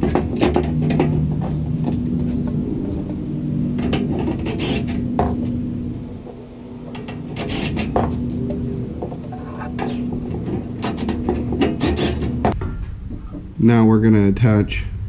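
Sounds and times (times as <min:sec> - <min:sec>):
low hum: 0:00.0 - 0:13.6.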